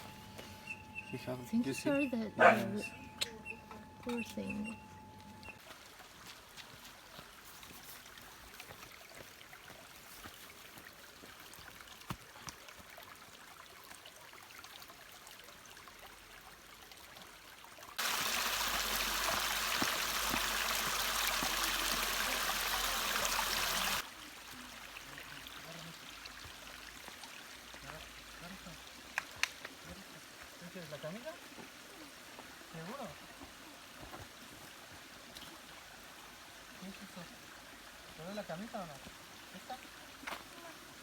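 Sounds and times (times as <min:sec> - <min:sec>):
flowing water rushing: 0:05.2 - 0:41.0.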